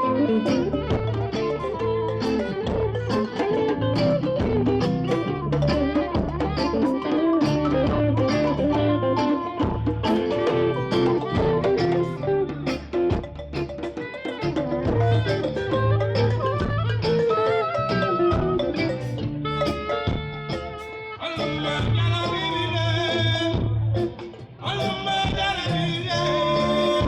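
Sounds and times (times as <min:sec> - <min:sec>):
bass line: 0:00.0 - 0:27.0
drums: 0:00.0 - 0:27.0
electric guitar: 0:00.0 - 0:27.0.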